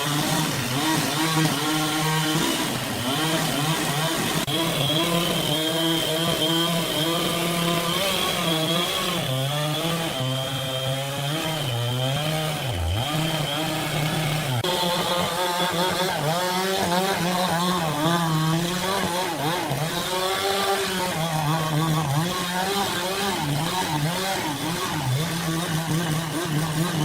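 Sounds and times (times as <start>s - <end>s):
power saw cutting wood: 0.0s - 27.0s.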